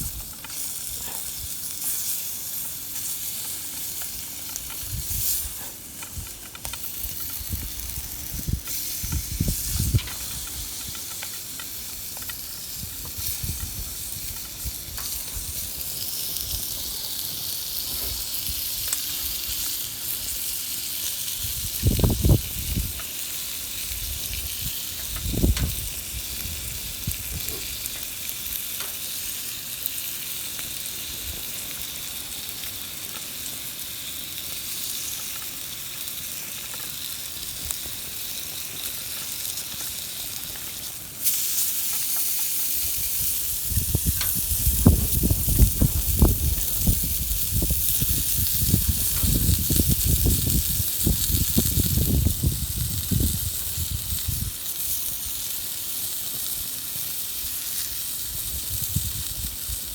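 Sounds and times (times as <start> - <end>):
food sizzling and frying: 0.0 - 59.9.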